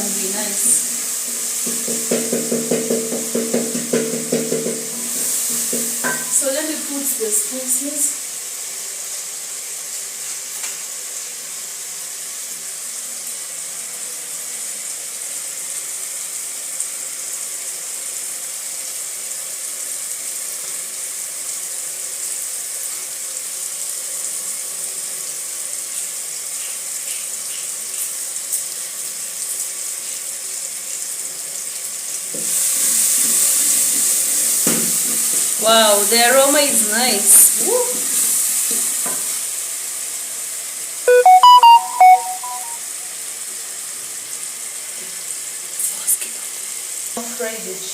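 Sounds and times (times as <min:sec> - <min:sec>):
sauce sizzling in a pot: 0:00.0 - 0:47.9.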